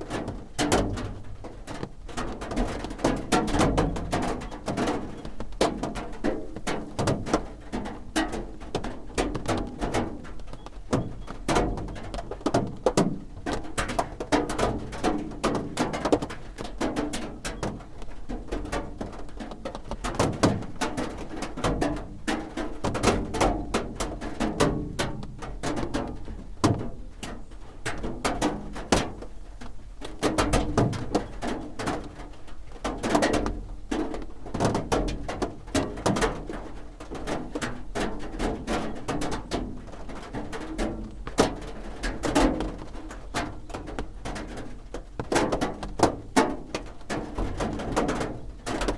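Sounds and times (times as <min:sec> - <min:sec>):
rain drumming on a roof: 0:00.0 - 0:48.9.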